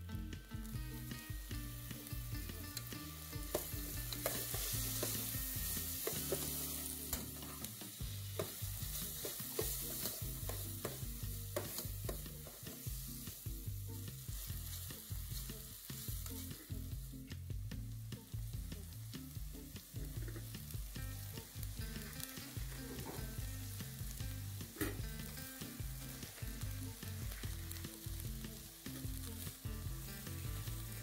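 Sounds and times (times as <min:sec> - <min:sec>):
onions sizzling in a pot: 0:00.0 - 0:31.0.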